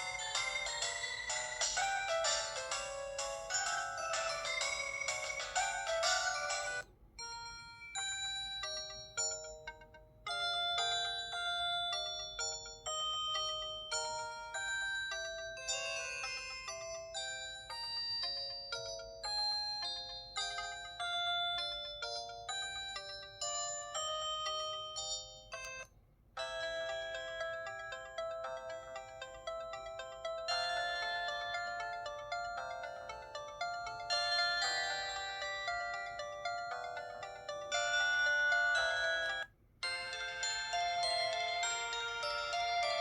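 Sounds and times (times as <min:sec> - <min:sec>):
polyphonic phone ringtones: 0:00.0 - 0:43.0.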